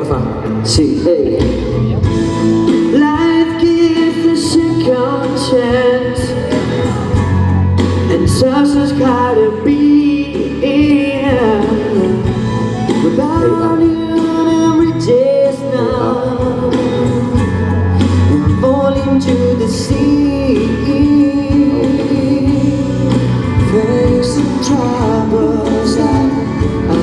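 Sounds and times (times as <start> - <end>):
backing track through speakers: 0.0 - 27.0
person singing pop song live: 0.0 - 27.0.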